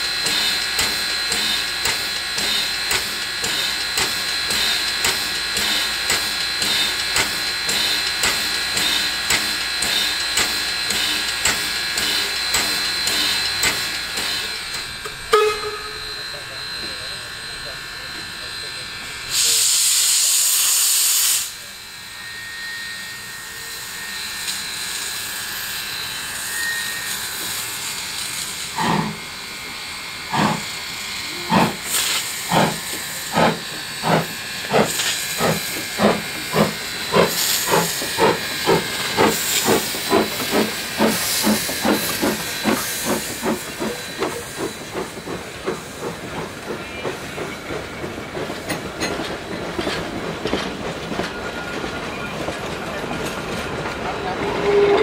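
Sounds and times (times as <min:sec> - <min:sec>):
loud steam hiss: 0:00.0 - 0:55.0
steam locomotive exhaust chuffs: 0:00.0 - 0:55.0.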